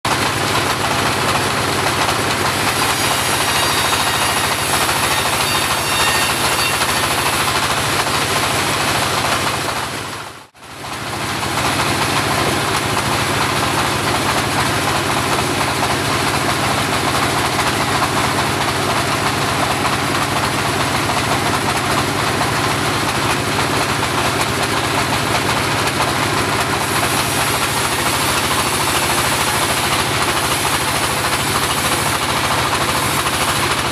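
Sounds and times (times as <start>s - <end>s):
bandsaw running: 0.1s - 10.2s, 11.5s - 33.9s.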